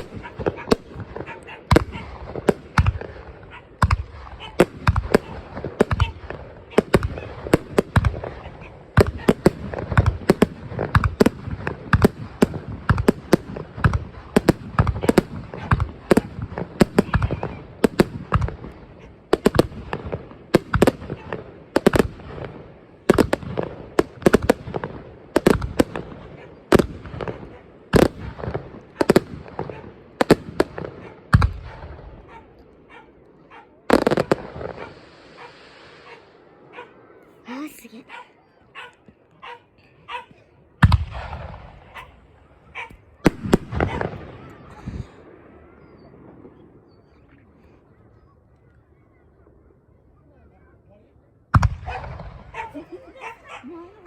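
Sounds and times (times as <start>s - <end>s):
fireworks bangs and crackles: 0.0s - 38.0s, 40.8s - 47.9s, 51.5s - 54.0s.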